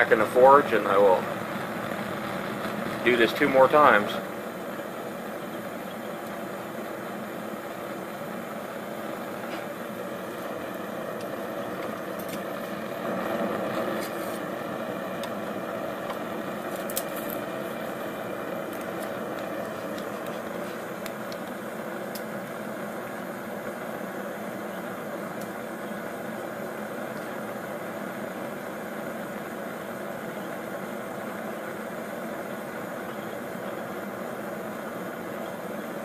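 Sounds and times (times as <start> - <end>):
gas burner roaring: 0.0 - 36.0.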